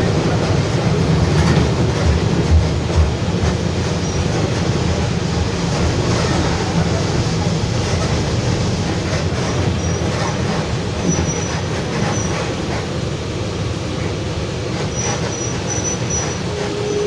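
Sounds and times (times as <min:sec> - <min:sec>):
bus differential growling: 0:00.0 - 0:17.0.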